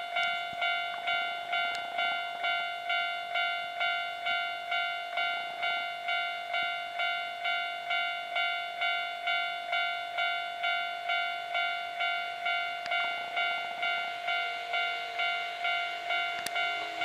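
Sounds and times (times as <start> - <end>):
level-crossing warning bell ringing: 0.0 - 17.0.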